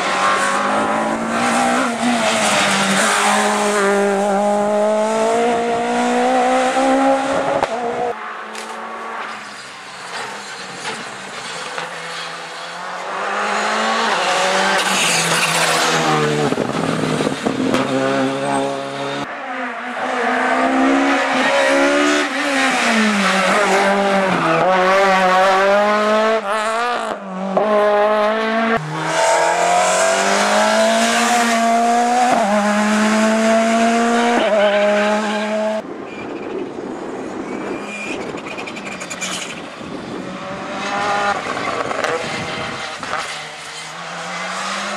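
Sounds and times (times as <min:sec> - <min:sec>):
rally car engines revving: 0:00.0 - 0:35.9, 0:37.4 - 0:44.9.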